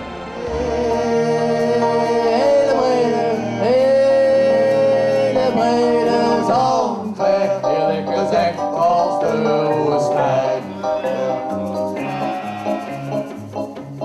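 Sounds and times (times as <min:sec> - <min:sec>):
voices singing long notes: 0:00.0 - 0:13.6
keyboard: 0:00.0 - 0:14.0
hand percussion: 0:00.8 - 0:14.0.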